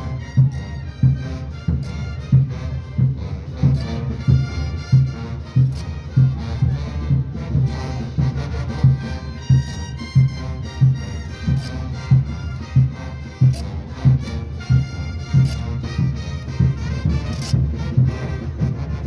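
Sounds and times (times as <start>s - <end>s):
bass drum beat: 0.0s - 18.9s
brass band playing: 0.0s - 19.0s.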